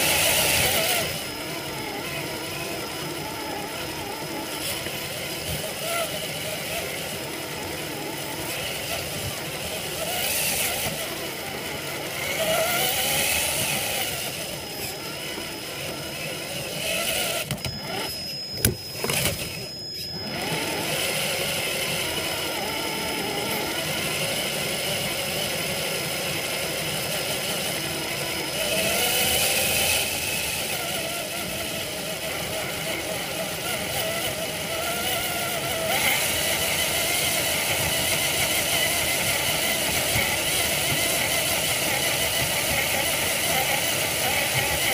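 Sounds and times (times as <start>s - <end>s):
electric motor whine: 0.0s - 44.9s
rc truck drivetrain noise: 0.0s - 44.9s.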